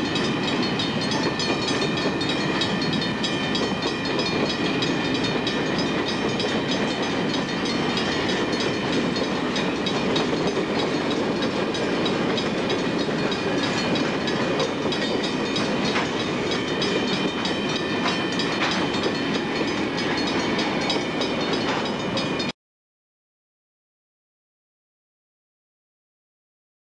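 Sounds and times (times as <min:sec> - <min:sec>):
rail joint clicks: 0:00.0 - 0:22.5
train wheels rumbling on rail: 0:00.0 - 0:22.5.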